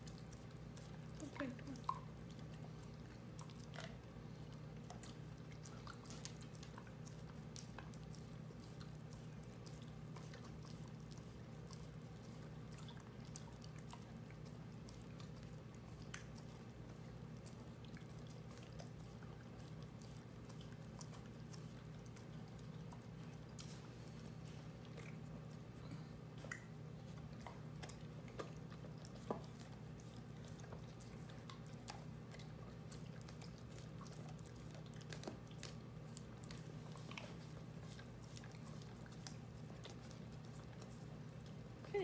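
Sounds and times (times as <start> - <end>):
dog licking and lapping: 0.0 - 42.0.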